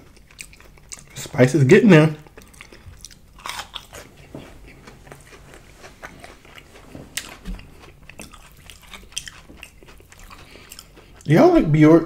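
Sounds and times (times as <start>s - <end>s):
chewing crunchy fried food: 0.0s - 11.5s.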